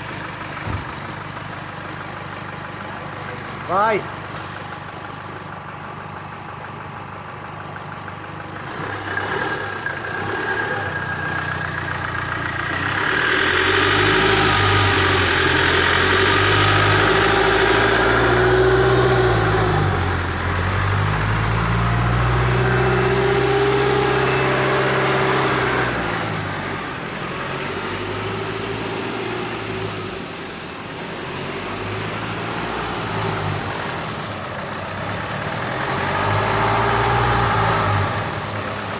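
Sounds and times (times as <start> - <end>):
diesel engine idling and revving: 0.0 - 38.9.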